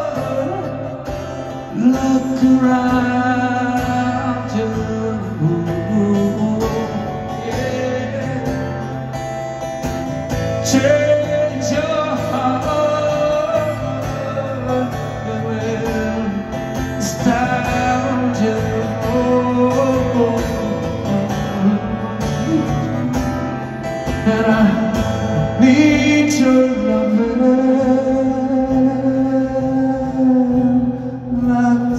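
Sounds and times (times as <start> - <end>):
live concert music: 0.0 - 31.9.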